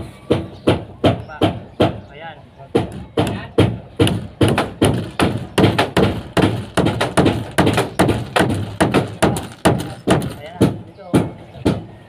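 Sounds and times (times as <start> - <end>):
dull hammering blows: 0.0 - 12.0.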